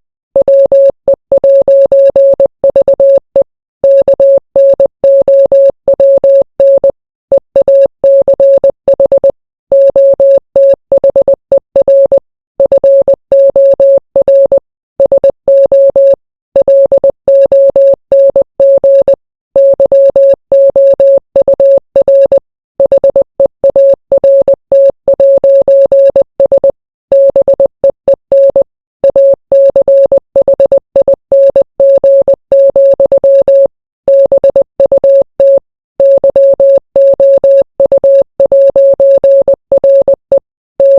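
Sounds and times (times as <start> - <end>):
morse code beeps: 0.4 - 40.9.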